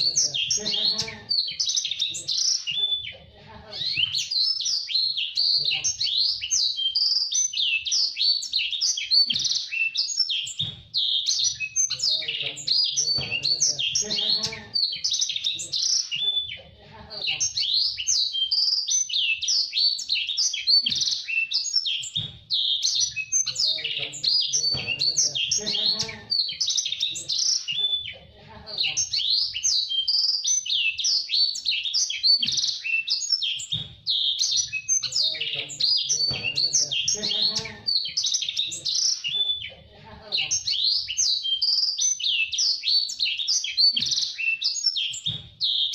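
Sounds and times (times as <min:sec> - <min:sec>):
canary singing high twittering: 0:00.0 - 0:45.9.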